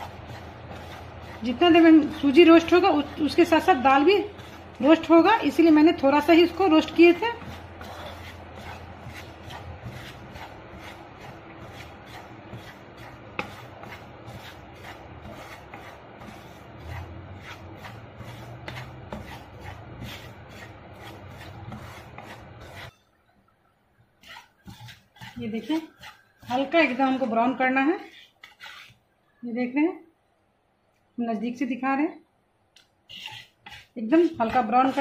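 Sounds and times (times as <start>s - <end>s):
wooden spatula scraping pan: 0.0s - 23.2s, 24.2s - 29.1s, 33.1s - 35.0s.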